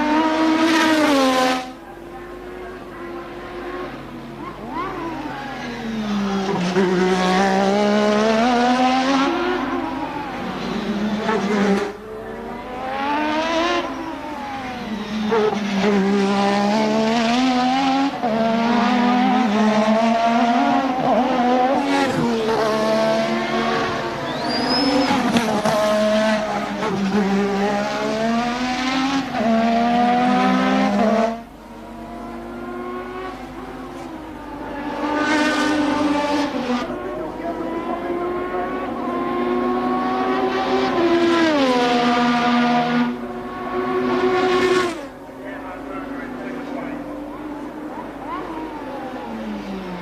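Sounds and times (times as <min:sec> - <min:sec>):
racing car engine revving: 0:00.0 - 0:50.0.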